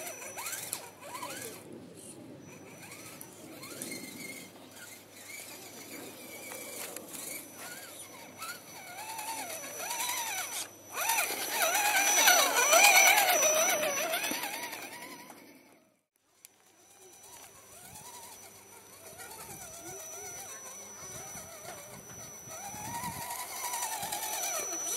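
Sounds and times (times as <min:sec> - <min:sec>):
electric motor whining: 0:00.0 - 0:24.9.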